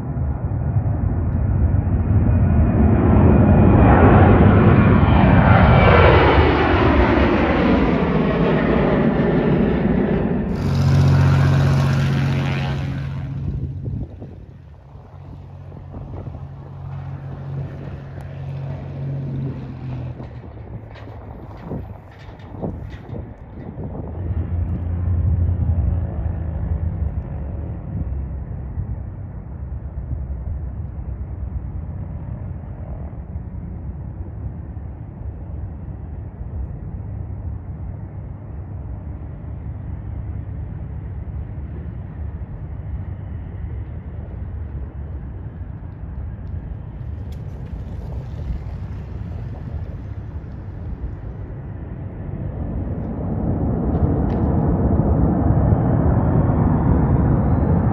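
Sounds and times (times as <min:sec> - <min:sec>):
propeller plane engine drone: 0:00.0 - 0:57.9.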